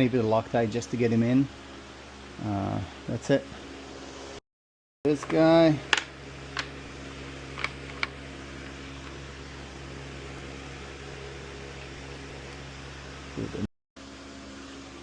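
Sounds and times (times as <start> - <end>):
mechanical hum with hiss: 0.0 - 4.4, 5.1 - 15.0.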